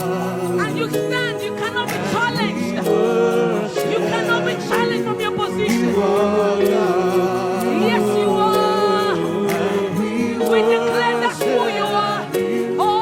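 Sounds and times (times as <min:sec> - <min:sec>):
worship team singing: 0:00.0 - 0:13.0.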